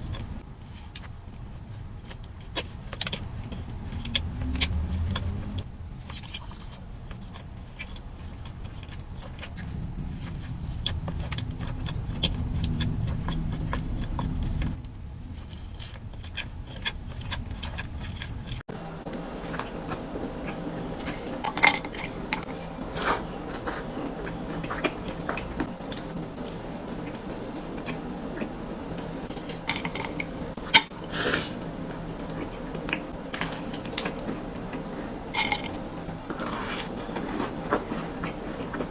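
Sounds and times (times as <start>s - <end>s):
cookies being chewed: 0.0s - 38.9s
low background rumble: 0.0s - 38.9s.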